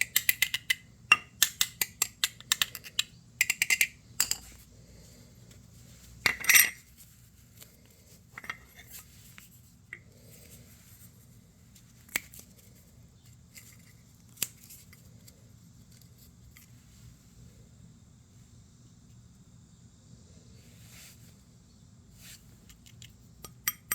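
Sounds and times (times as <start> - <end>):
faint low hum: 0.0 - 23.9.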